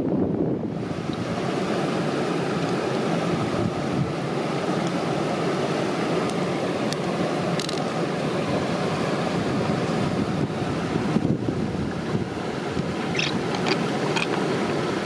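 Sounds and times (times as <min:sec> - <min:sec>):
fast-flowing river rushing: 0:00.7 - 0:15.0.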